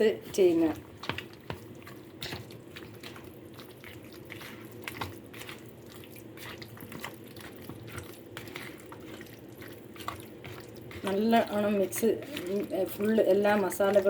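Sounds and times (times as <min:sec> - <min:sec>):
wet squelching of marinade mixing: 0:00.0 - 0:14.0.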